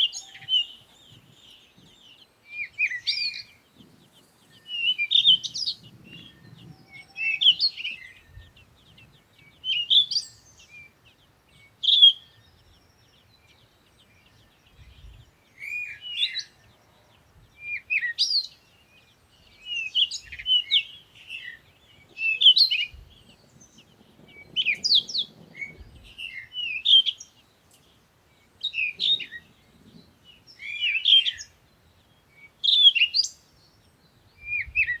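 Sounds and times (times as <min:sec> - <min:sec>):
small bird chirping: 0:00.0 - 0:35.0.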